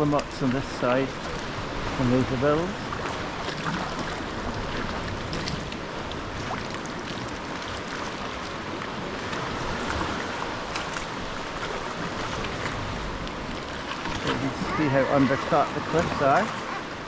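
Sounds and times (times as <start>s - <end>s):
water sloshing around kayak: 0.0s - 17.0s.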